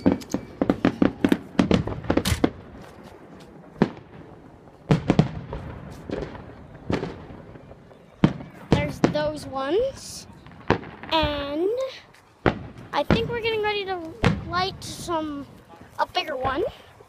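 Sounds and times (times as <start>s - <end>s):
fireworks cracking and banging: 0.0s - 16.8s.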